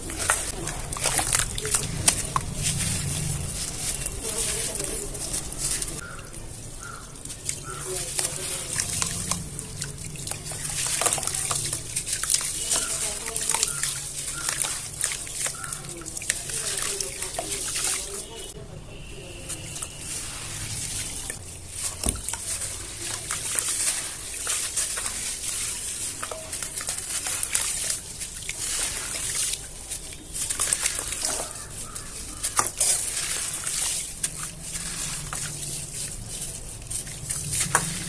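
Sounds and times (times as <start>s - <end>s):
cement chunks crumbling: 0.0s - 18.4s, 19.5s - 38.0s
wet cement paste squishing: 0.0s - 38.0s.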